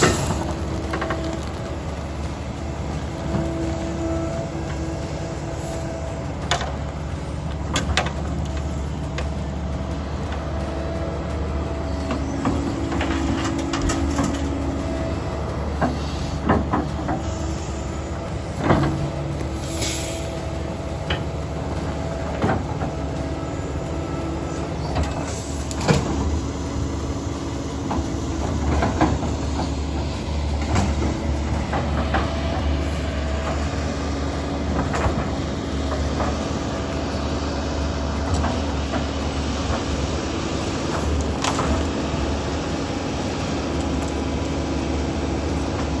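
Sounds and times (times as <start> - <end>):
excavator diesel engine: 0.0 - 46.0.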